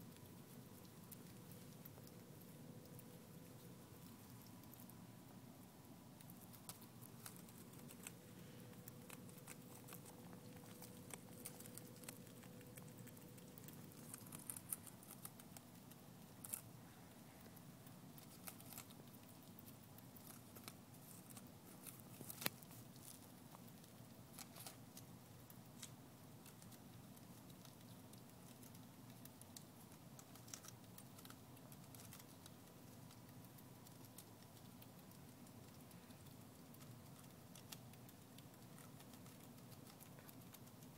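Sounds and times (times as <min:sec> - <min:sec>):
squirrel crunching lettuce: 0:00.0 - 0:40.9.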